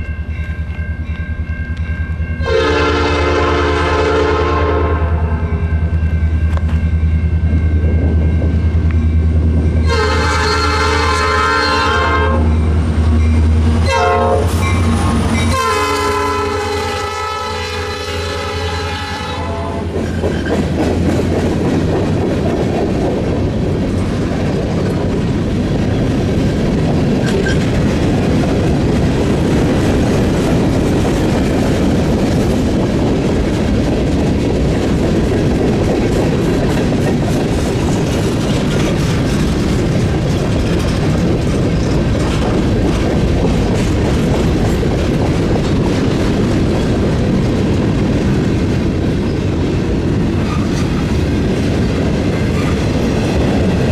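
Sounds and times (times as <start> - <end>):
freight train wheels clattering: 0.0 - 53.9.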